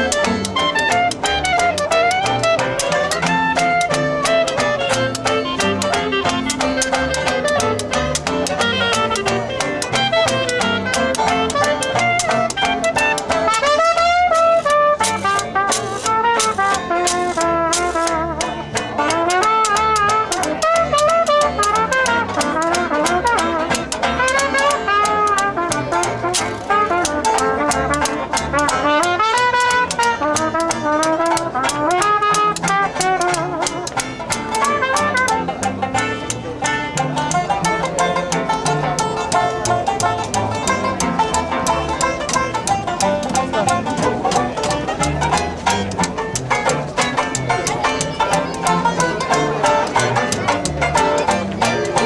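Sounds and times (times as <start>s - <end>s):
trumpet melody: 0.0s - 51.9s
banjo strumming: 0.0s - 52.0s
clarinet melody: 0.0s - 52.0s
double bass: 0.0s - 52.0s
washboard scraping a beat: 0.0s - 52.0s.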